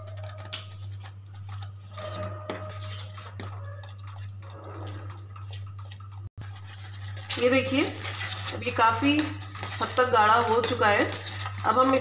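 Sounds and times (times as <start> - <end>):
spoon stirring in steel pot: 0.0 - 12.0.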